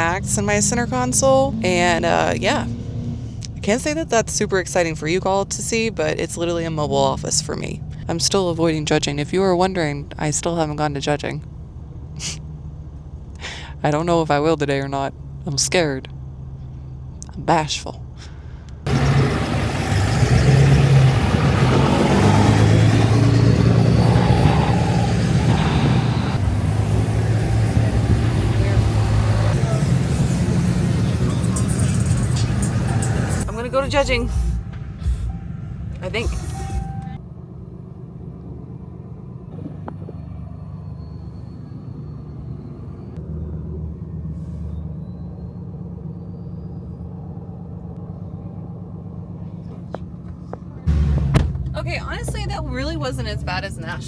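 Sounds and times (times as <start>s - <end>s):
road and tyre noise: 0.0s - 54.0s
truck engine running: 0.0s - 54.0s.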